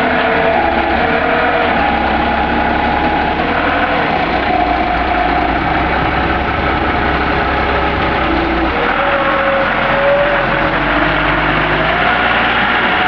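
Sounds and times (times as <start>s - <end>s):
forklift engine running: 0.0s - 13.0s
pitch-shifting steady tone: 0.0s - 13.0s.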